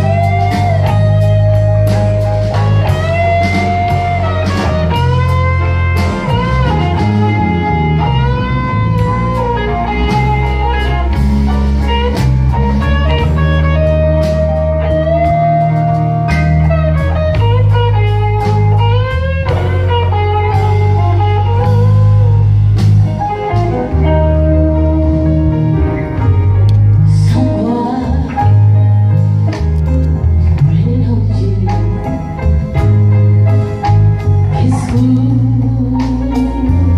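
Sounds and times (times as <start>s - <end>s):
drum kit: 0.0s - 36.9s
electric guitar lead with bent notes: 0.0s - 36.9s
walking bass: 0.0s - 36.9s.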